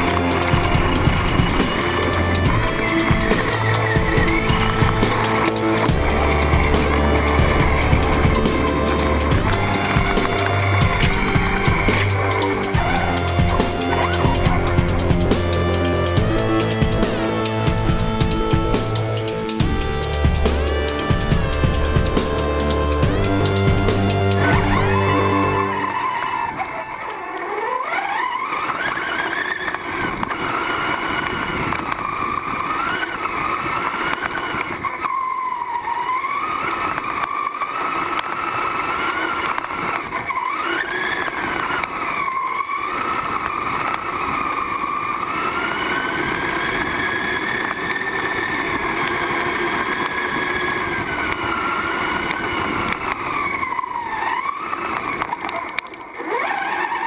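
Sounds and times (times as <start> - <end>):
chassis and tyres rattling: 0.0 - 57.0
rc car motor revving: 0.0 - 57.0.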